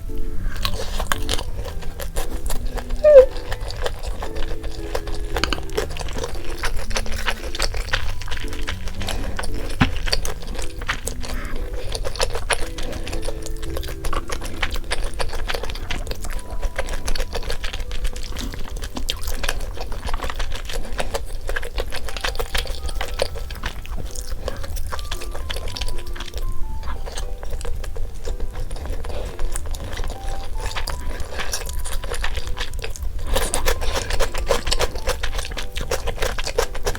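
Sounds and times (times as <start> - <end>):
crunchy chewing: 0.0 - 36.9
soft background music: 0.0 - 36.9.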